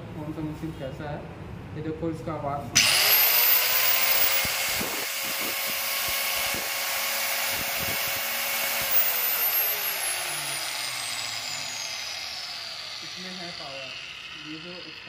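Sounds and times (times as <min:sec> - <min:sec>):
marble cutter whining: 0:02.8 - 0:15.0.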